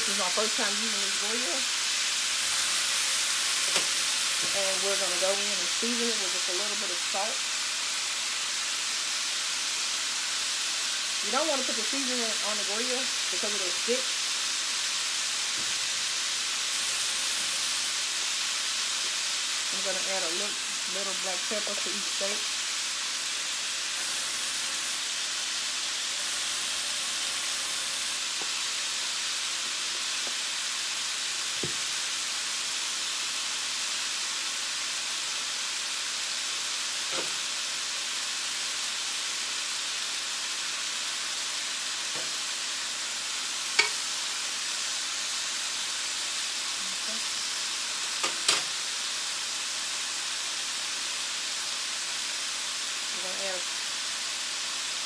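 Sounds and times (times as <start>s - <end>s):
steaks sizzling on a grill: 0.0s - 55.0s.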